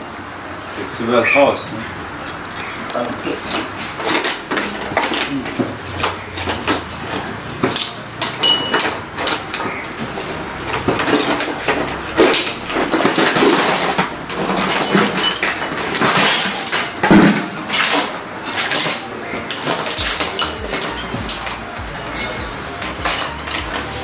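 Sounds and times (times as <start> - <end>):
hard objects knocking and clinking: 1.9 - 24.0.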